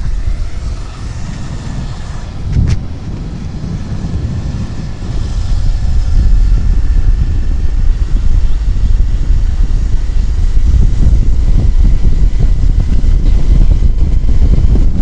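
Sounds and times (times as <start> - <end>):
low road rumble: 0.0 - 15.0
motorbike engine drone: 0.0 - 15.0.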